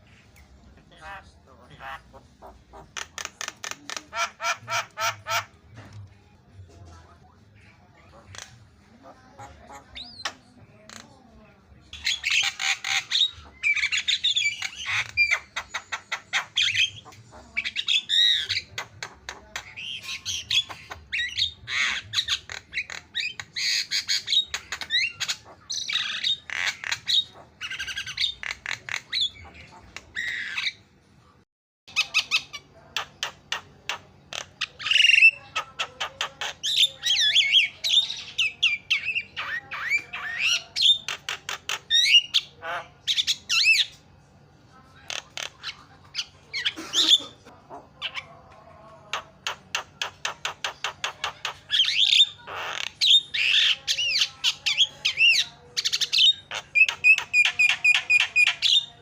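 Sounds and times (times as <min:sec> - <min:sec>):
myna bird chattering song: 0:00.0 - 0:05.7, 0:07.2 - 0:11.1, 0:11.9 - 0:30.9, 0:31.9 - 0:44.0, 0:45.0 - 0:48.5, 0:49.1 - 0:59.0.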